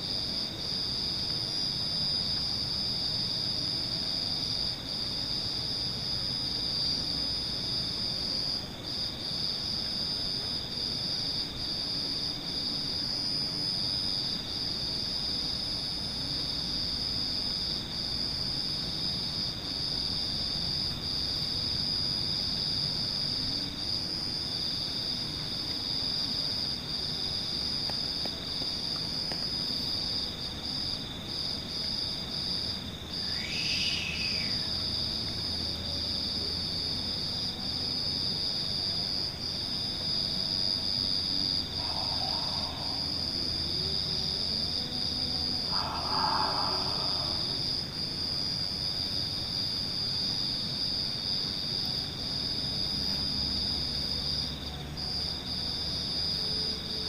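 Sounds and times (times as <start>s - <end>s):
night insects chirring: 0.0s - 57.0s.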